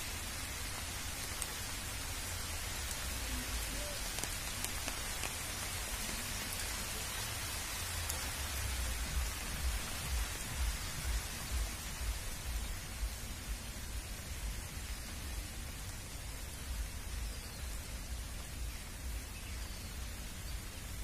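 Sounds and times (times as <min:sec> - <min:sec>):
rain falling on a pond: 0:00.0 - 0:21.0.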